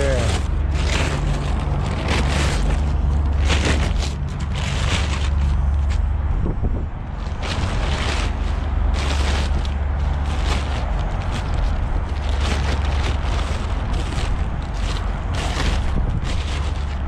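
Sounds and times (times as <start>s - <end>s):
heavy low rumble: 0.0s - 17.0s
plastic tarp rustling: 0.0s - 17.0s.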